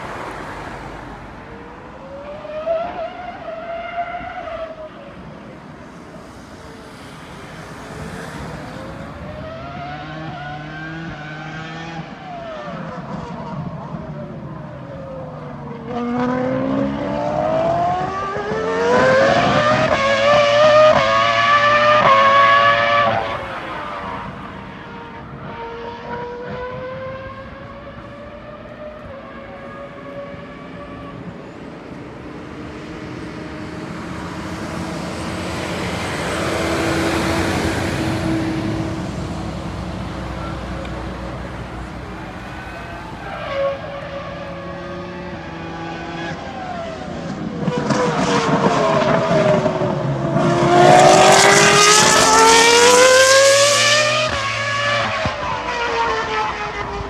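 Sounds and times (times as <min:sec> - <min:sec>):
racing car engine accelerating: 0:06.2 - 0:57.0.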